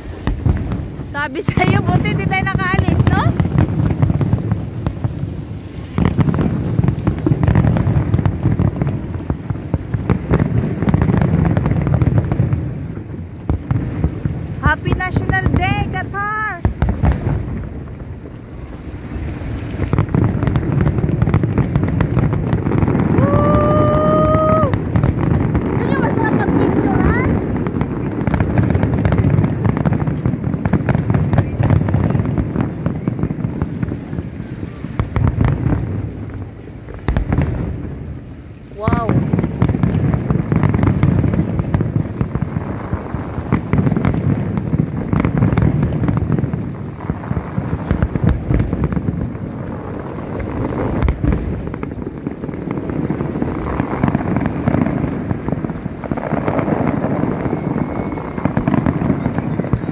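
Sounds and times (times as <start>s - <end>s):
firework booms: 0.0s - 59.9s
firework crackling: 0.0s - 59.9s.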